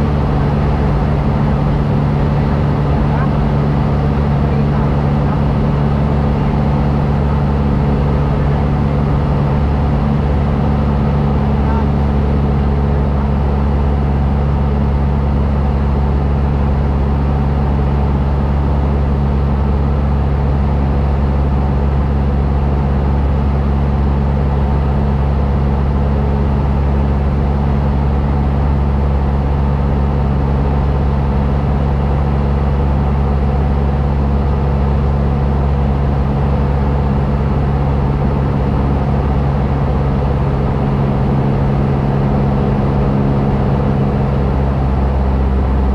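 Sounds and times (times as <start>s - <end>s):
aircraft engine droning in cabin: 0.0s - 45.9s.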